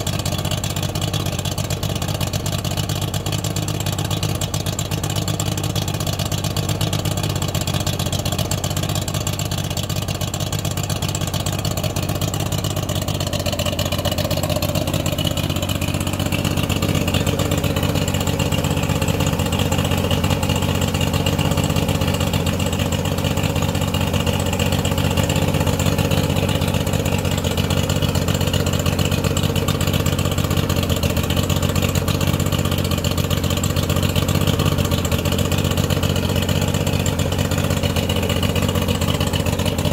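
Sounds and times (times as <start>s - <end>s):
outboard engine idling: 0.0s - 39.9s.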